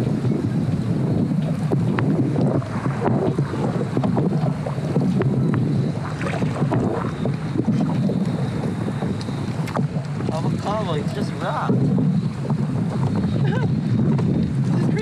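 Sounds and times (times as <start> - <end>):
sharp ticks and splashes: 0.0 - 15.0
water sloshing against hull: 0.0 - 15.0
wind buffeting microphone: 0.0 - 15.0.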